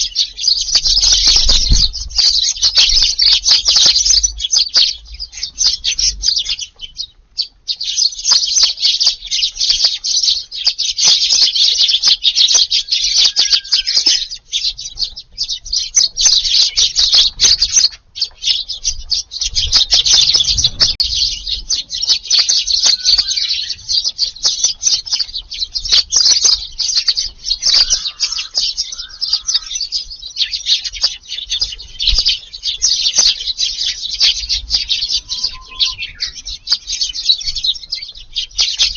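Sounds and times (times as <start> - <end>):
flock of sparrows chirping: 0.0 - 38.9.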